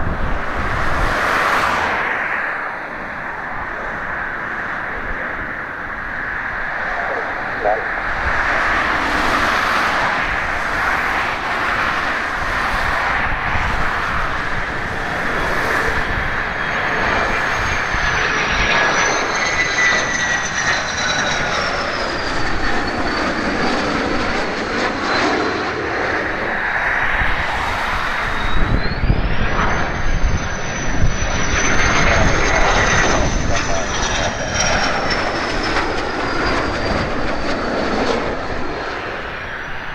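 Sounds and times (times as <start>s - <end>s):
high jet whine: 0.0s - 39.9s
jet engine rumble: 0.0s - 39.9s.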